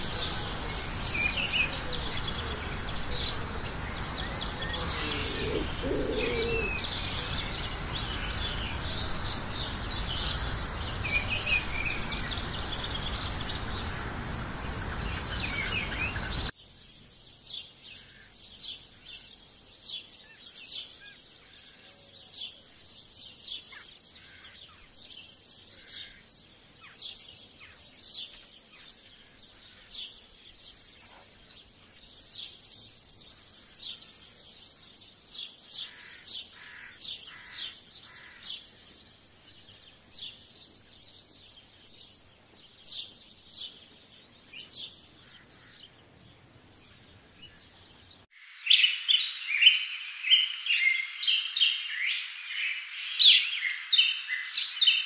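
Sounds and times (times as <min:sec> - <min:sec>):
bird chirping: 0:00.0 - 0:55.0
songbirds singing: 0:00.0 - 0:55.0.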